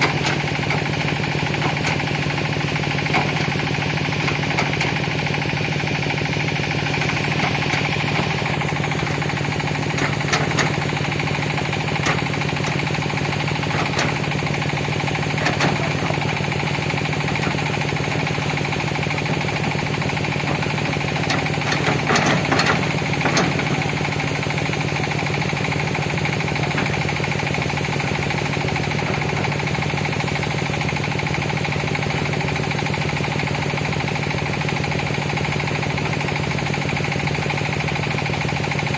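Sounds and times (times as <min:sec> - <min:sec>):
knocks and clanks: 0:00.0 - 0:33.2
excavator diesel engine running: 0:00.0 - 0:38.9.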